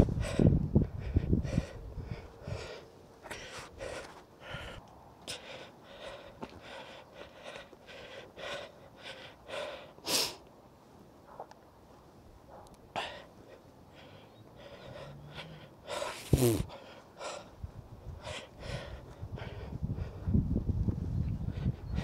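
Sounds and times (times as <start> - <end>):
sharp breaths: 0.0 - 10.5, 12.9 - 20.4.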